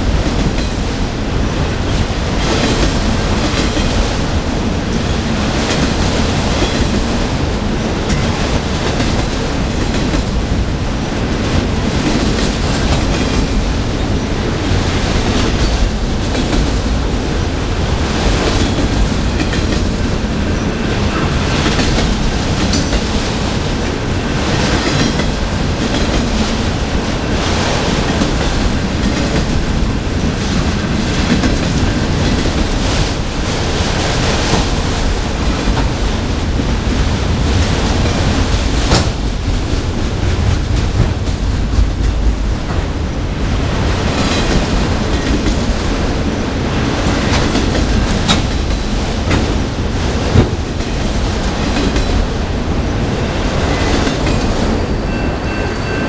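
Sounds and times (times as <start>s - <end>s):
wheels clacking over rail joints: 0.0s - 55.0s
train wheels rumbling on rail: 0.0s - 56.0s.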